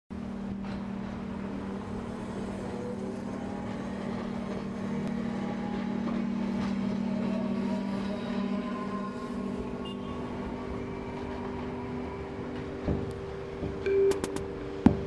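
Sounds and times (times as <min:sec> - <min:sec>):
traffic hum: 0:00.1 - 0:15.0
trams running past: 0:00.1 - 0:15.0.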